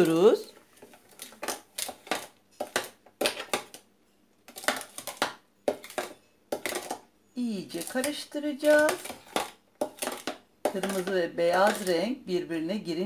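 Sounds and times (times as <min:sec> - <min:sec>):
spoon scraping plastic bowl: 0:00.0 - 0:03.8, 0:04.4 - 0:12.1.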